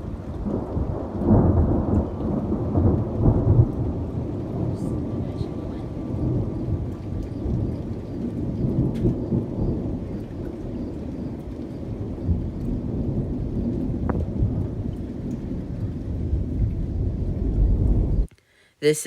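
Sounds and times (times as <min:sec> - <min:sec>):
rolling thunder rumble: 0:00.0 - 0:18.3.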